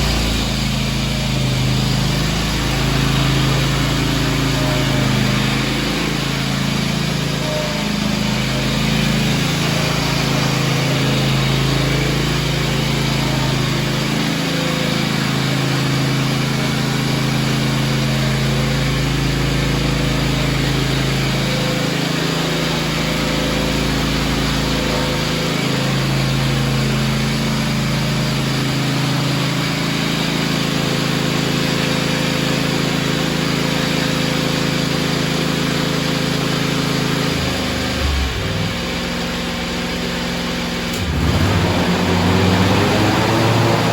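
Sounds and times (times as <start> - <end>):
garden tractor engine running: 0.0 - 43.9.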